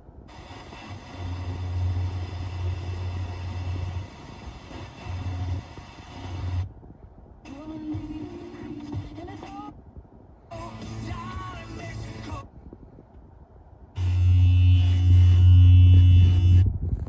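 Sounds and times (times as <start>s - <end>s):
low droning hum over radio: 0.0s - 17.0s.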